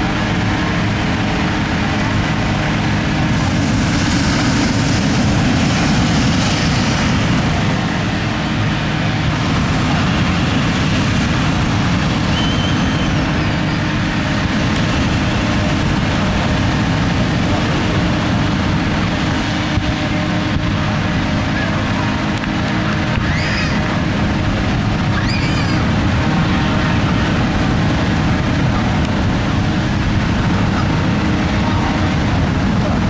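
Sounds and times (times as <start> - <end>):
crowd voices: 0.0 - 33.0
inflator fan engine hum: 0.0 - 33.0.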